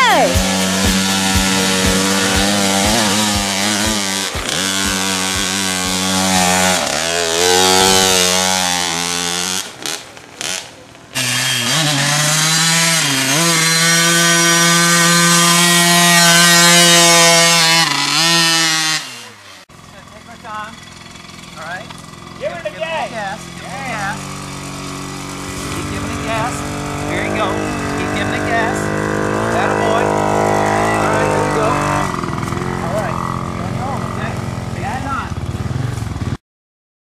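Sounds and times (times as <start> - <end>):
dirt bike engine revving: 0.0 - 36.4.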